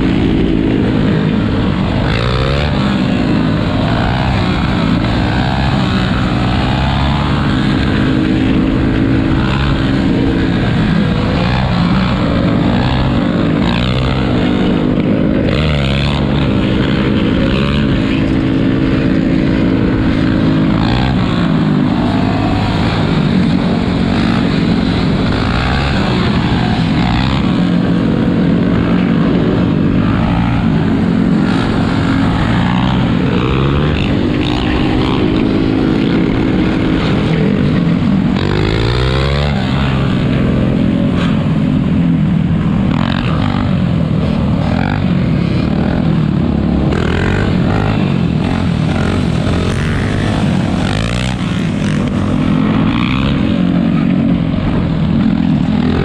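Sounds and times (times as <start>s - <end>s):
atv and motorbike engines revving: 0.0s - 56.0s.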